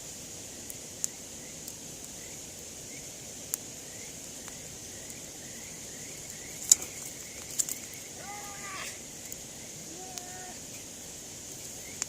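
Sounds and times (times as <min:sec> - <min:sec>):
insects chirping: 0:00.0 - 0:12.0
wood campfire crackling and popping: 0:00.0 - 0:12.0.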